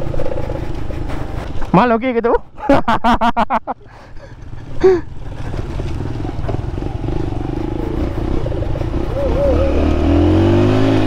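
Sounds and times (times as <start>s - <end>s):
moped engine running: 0.0s - 2.0s, 4.0s - 11.0s.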